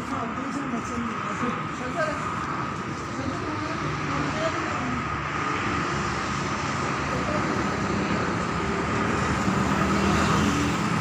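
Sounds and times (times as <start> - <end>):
constant high whine: 0.0 - 9.5
vehicle rumble and road noise: 0.0 - 11.0.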